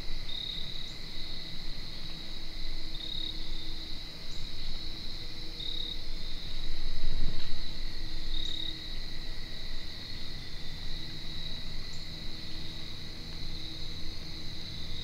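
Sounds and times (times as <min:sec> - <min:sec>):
crickets and insects chorus: 0:00.0 - 0:15.0
insect chirp: 0:00.0 - 0:15.0.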